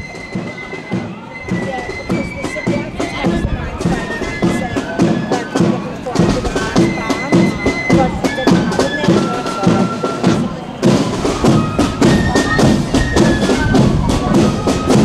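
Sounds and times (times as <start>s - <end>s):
side drums and bass drum: 0.0s - 15.0s
wind instruments melody: 0.0s - 15.0s.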